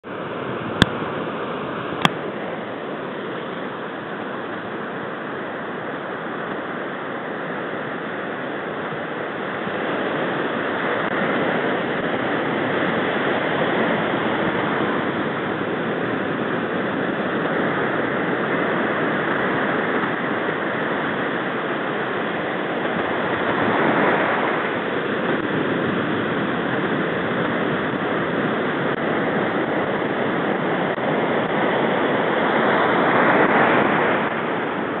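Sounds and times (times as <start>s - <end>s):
breaking waves: 0.0s - 35.0s.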